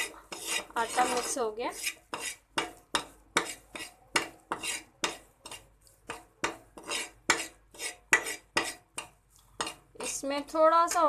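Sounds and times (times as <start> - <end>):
spoon scraping a pan: 0.0 - 11.0.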